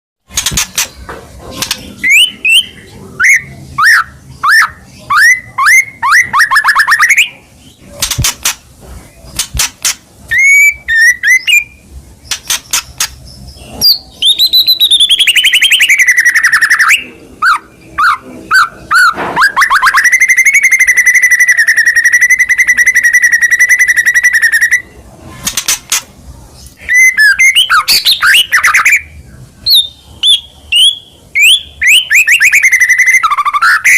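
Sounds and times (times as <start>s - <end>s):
bird singing whistled song: 1.9s - 7.8s, 10.3s - 24.9s, 26.8s - 33.9s.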